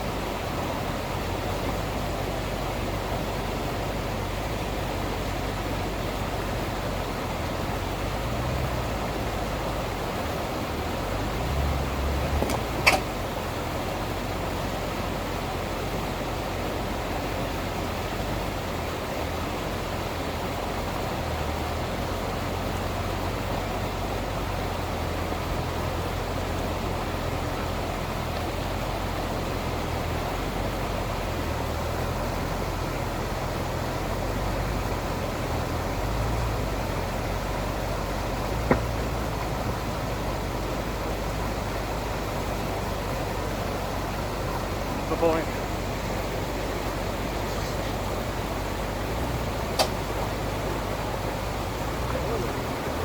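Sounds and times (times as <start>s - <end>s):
vehicle rumbling on dirt trail: 0.0s - 53.0s.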